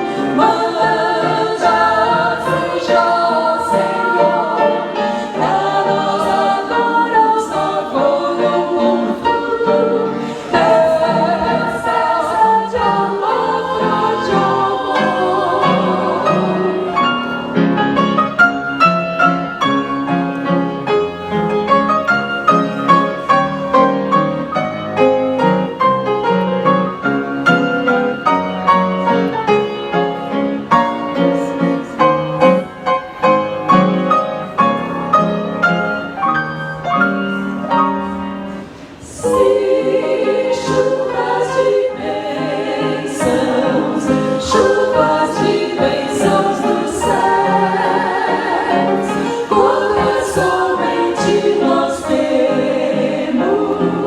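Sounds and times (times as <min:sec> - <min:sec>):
choir singing: 0:00.0 - 0:54.0
hymn on piano: 0:00.0 - 0:54.0.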